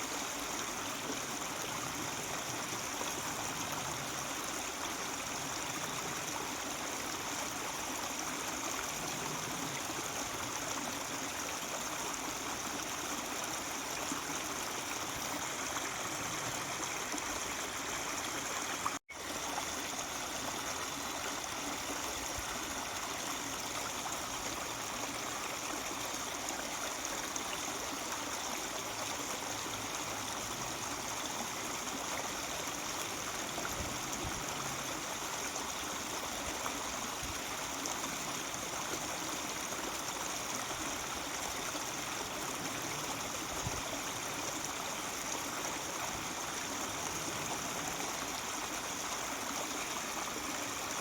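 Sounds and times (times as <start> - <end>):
stream babbling over rocks: 0.0 - 51.0.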